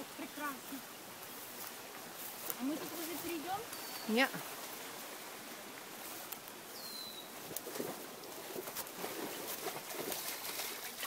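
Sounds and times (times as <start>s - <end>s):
flowing creek: 0.0s - 11.0s.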